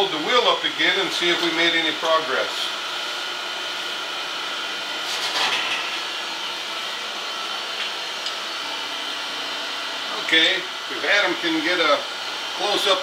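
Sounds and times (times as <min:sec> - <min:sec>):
surface grinder whirring hum: 0:00.0 - 0:13.0.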